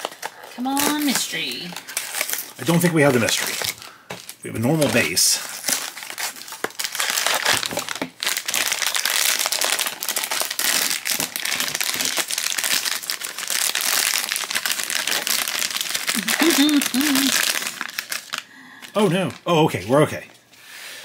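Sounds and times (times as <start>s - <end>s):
foil bag crinkling: 0.0s - 19.6s.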